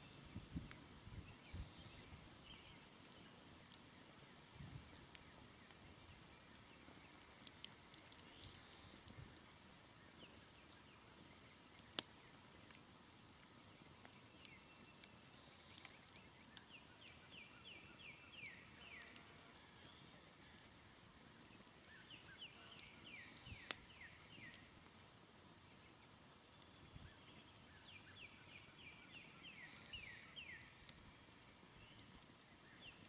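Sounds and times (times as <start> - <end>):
campfire crackles and pops: 0.0 - 33.0.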